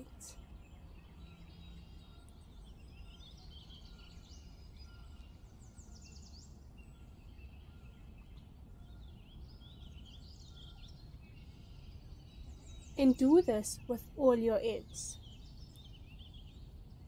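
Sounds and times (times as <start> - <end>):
birds chirping and trilling: 0.0 - 17.0
low background rumble: 0.0 - 17.0.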